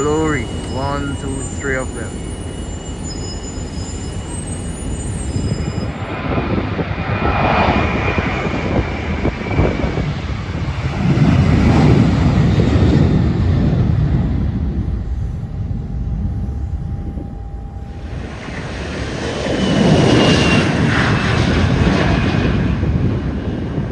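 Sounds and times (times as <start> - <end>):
airliner engines passing by: 0.0 - 23.9.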